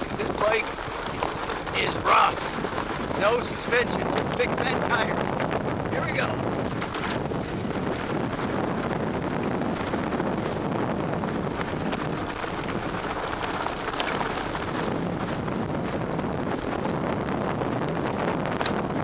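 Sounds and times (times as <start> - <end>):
bike rattling: 0.0 - 19.0
tires rolling on gravel: 0.0 - 19.0
wind buffeting microphone: 0.0 - 19.0.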